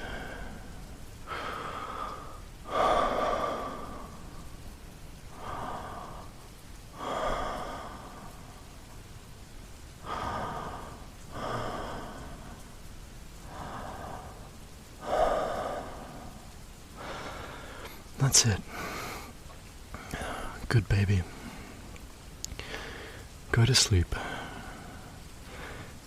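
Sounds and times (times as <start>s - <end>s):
man breathing deeply: 0.0s - 4.6s, 5.3s - 8.8s, 10.0s - 20.6s, 22.5s - 23.4s, 24.2s - 26.0s
faint rain patter: 0.0s - 26.0s.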